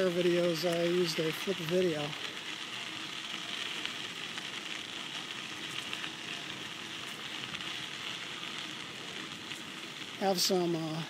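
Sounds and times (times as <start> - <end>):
bicycle tyres on asphalt: 0.0 - 11.0.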